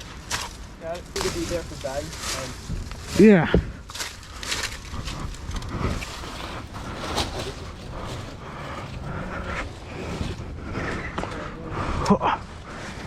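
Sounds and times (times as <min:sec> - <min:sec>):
low rumble: 0:00.0 - 0:13.0
scuffs and rustles of climbing: 0:00.3 - 0:13.0.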